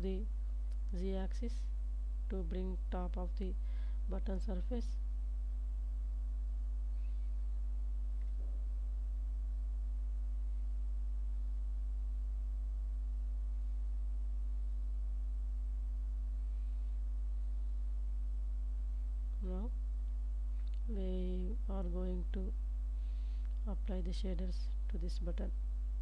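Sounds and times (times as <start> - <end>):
low electrical mains hum: 0.0 - 26.0.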